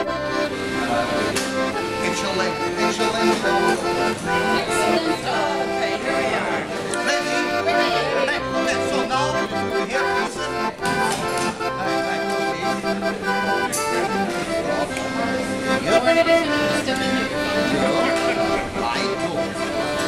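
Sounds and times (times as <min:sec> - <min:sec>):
accordion music: 0:00.0 - 0:20.0.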